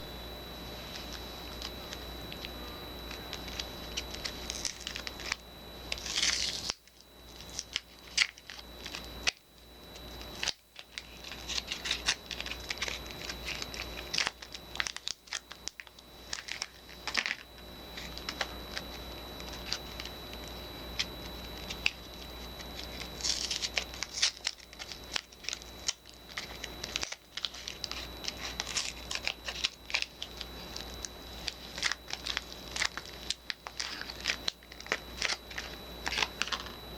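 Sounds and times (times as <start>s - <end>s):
packaging crinkling and tearing: 3.1s - 9.4s, 10.0s - 20.2s, 21.0s - 36.8s.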